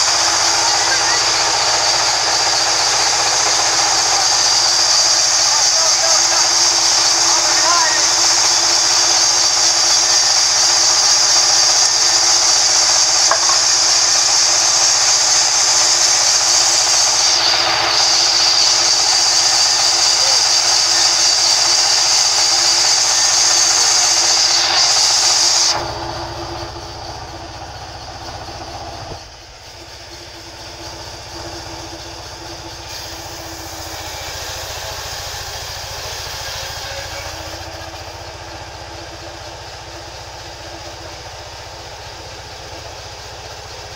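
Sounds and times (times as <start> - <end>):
band saw high-pitched hiss: 0.0 - 43.9
machine hum and rumble: 0.0 - 43.9.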